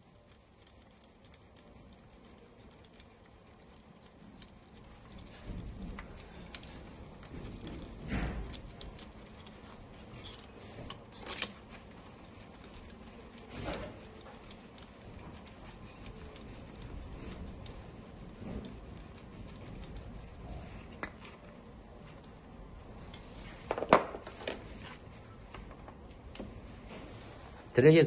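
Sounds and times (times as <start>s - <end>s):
gloved hands rubbing: 0.0s - 28.0s.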